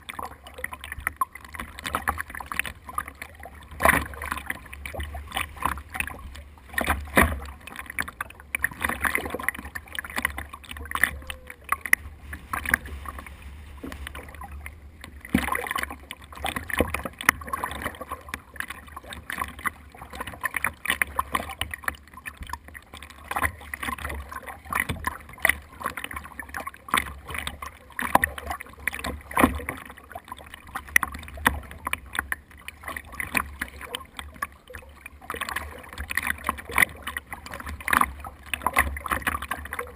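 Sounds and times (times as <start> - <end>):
water slapping against boat hull: 0.0 - 39.9.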